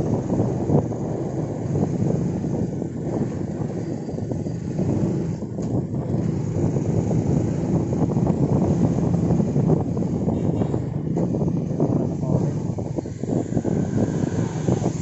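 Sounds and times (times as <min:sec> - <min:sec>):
motor scooter rumble: 0:00.0 - 0:15.0
wind buffeting microphone: 0:00.0 - 0:15.0.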